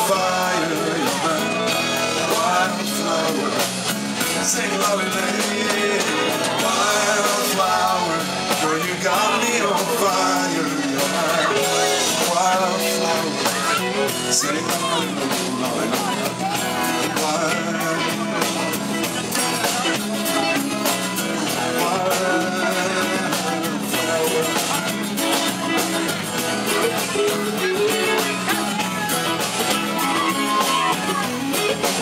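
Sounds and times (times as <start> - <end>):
bass: 0.0 - 32.0
drums: 0.0 - 32.0
electric guitars: 0.0 - 32.0.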